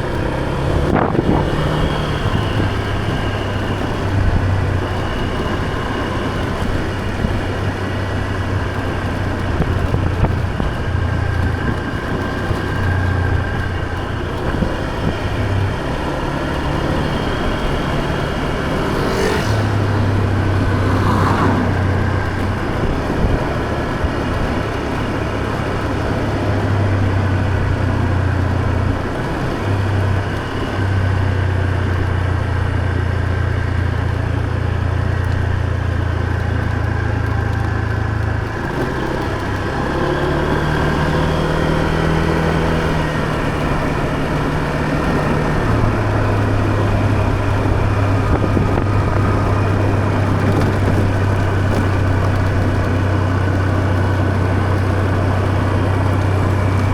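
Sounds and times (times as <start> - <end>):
motor scooter engine hum: 0.0 - 56.9
road noise: 0.0 - 56.9
wind: 0.0 - 56.9.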